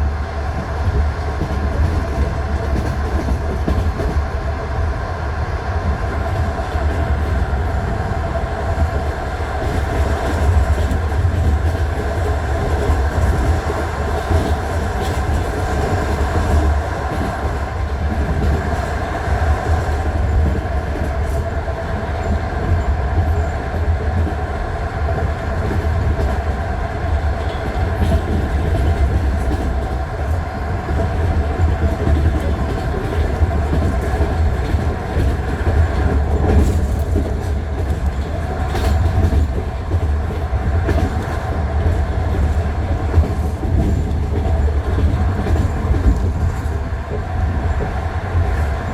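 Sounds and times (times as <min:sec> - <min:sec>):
train rumble from inside carriage: 0:00.0 - 0:48.9.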